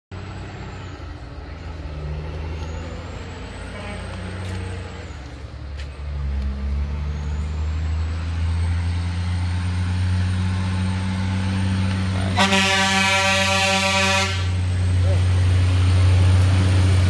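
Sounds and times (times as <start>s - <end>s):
truck diesel engine droning: 0.1s - 17.0s.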